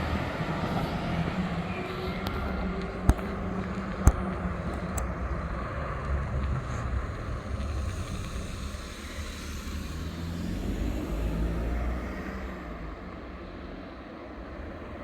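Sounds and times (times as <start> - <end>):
truck diesel engine running: 0.0 - 13.1.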